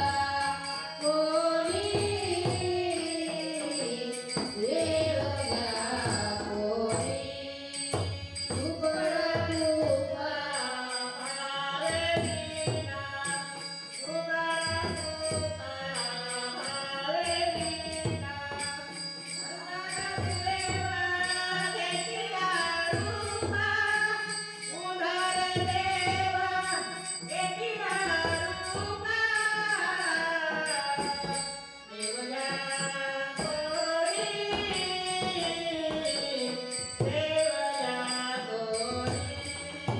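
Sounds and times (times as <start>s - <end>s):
jingling percussion: 0.0s - 39.9s
woman singing devotional song: 0.0s - 39.9s.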